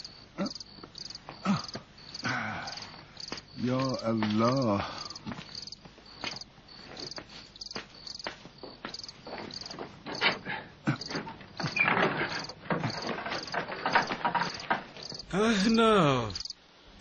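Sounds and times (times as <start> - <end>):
irregular knocks and rustling: 0.0 - 15.3
crickets chirping: 0.0 - 17.0.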